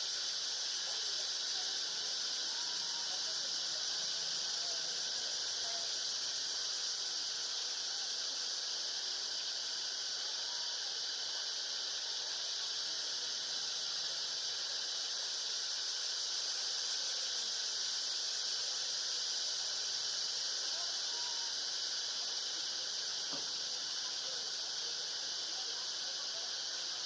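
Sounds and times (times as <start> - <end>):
insect chorus droning: 0.0 - 27.0.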